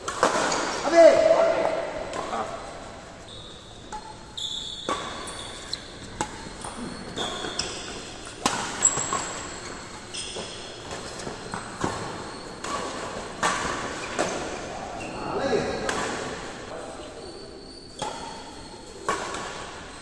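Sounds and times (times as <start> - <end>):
rackets striking shuttlecock: 0.0 - 0.9, 1.5 - 14.7, 18.0 - 20.0
shoes squeaking on court: 1.5 - 20.0.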